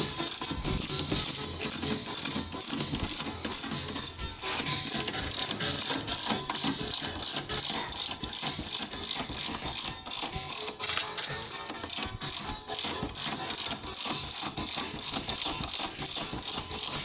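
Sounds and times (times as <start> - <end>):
ratchet wrench clicking: 0.0 - 17.0.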